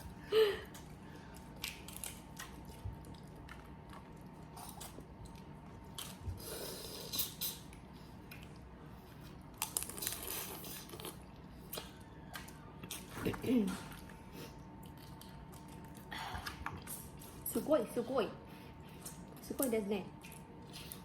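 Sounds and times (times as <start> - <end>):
chewing: 0.7 - 17.4, 18.5 - 21.0.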